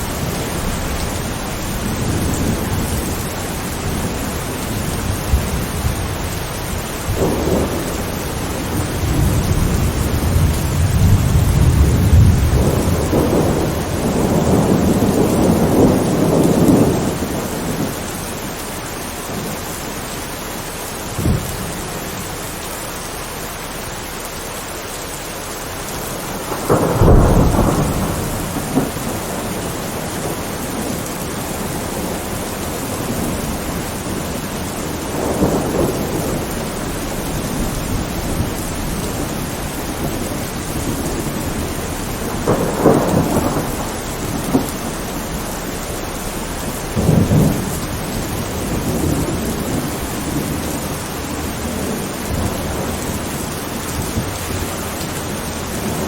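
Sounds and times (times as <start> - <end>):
thunder rumbling: 0.0 - 22.9, 25.4 - 56.0
steady rain: 0.0 - 56.0.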